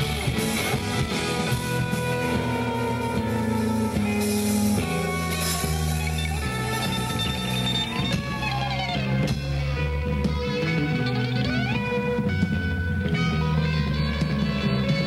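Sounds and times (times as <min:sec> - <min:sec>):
bass guitar line: 0:00.0 - 0:15.0
drum kit: 0:00.0 - 0:15.0
electric guitars: 0:00.0 - 0:15.0
guitar notes sliding down: 0:00.0 - 0:15.0.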